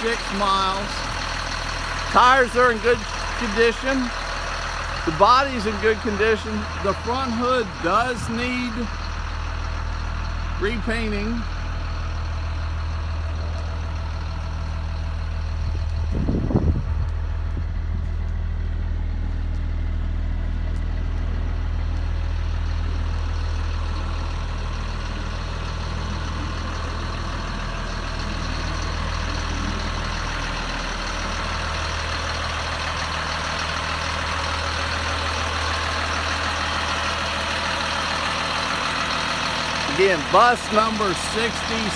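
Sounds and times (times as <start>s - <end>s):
diesel bus engine idling: 0.0s - 41.9s.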